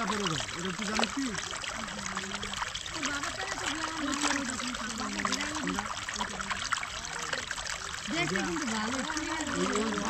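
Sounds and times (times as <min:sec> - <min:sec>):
water trickling and pouring: 0:00.0 - 0:10.0.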